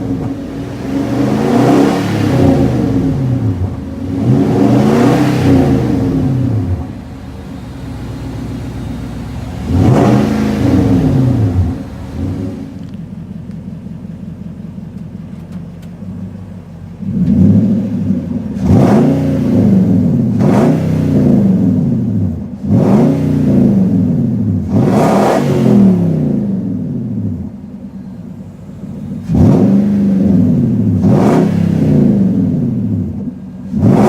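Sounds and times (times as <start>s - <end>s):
truck engine idling and revving: 0.0s - 34.0s.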